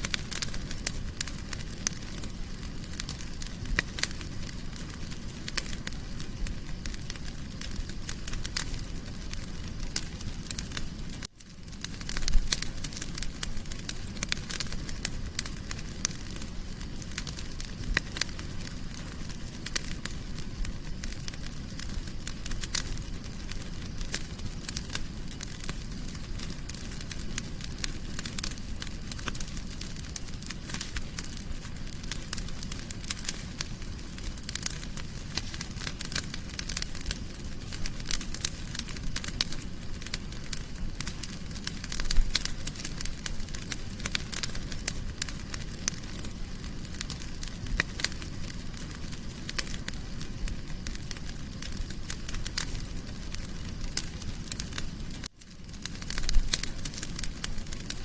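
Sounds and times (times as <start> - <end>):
fireplace fire crackling: 0.0 - 58.0
low rumble of flames: 0.0 - 58.0.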